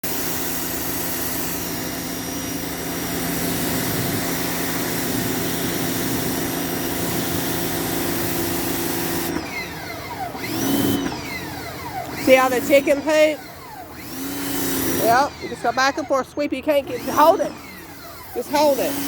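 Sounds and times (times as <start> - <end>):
pressure washer spray hissing: 0.0 - 9.4, 12.1 - 16.1, 16.7 - 19.0
motor hum: 0.0 - 19.0.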